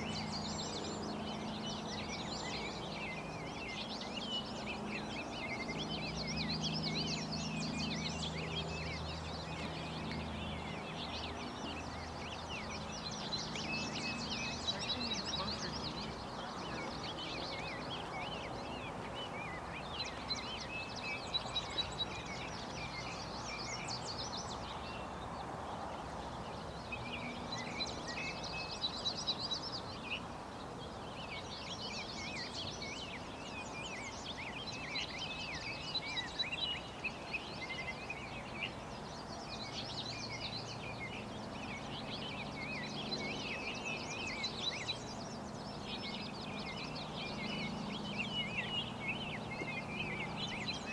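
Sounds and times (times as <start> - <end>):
outdoor background hiss: 0.0 - 50.9
songbirds chirping and trilling: 0.0 - 50.9.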